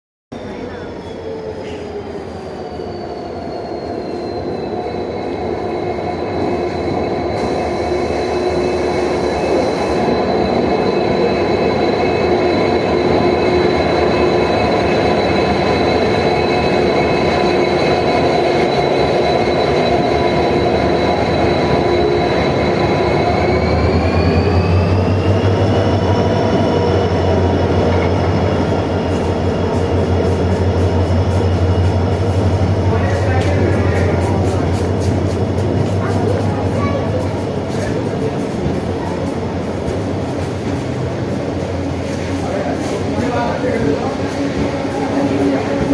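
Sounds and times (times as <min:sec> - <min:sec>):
locomotive whine: 0:00.4 - 0:45.9
train rumble: 0:00.4 - 0:45.9.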